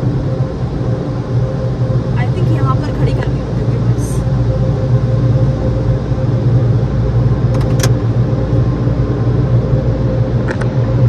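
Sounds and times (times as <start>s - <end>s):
car engine running: 0.0s - 11.0s
car wash equipment humming: 0.0s - 11.0s.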